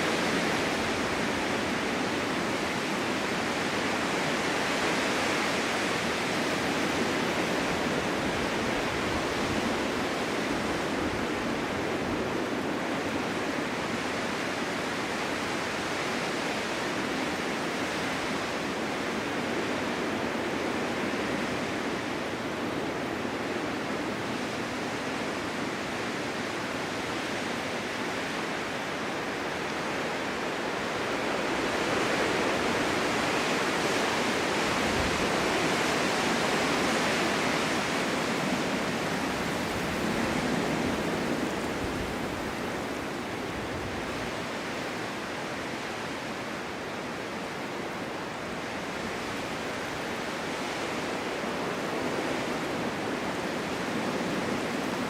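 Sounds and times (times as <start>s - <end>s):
snowstorm wind blowing: 0.0s - 55.0s.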